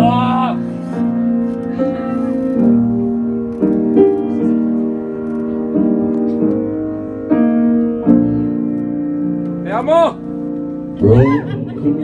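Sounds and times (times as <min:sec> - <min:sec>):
solo piano chords: 0:00.0 - 0:12.0.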